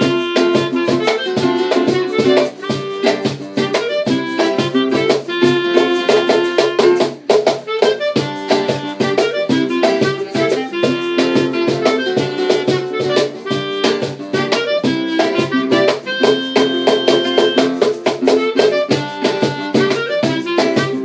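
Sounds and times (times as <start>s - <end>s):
acoustic band playing bossa nova: 0.0s - 21.0s.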